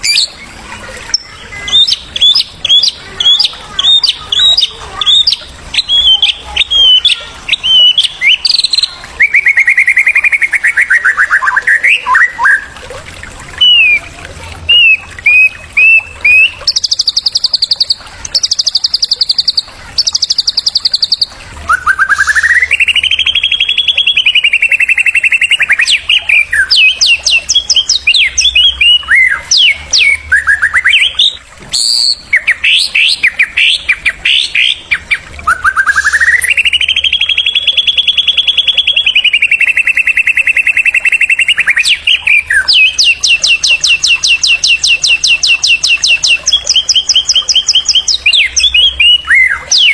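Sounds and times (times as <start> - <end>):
bird trills: 0.0 - 12.8, 14.7 - 49.9
bird whistled notes: 4.0 - 12.7, 14.7 - 49.9.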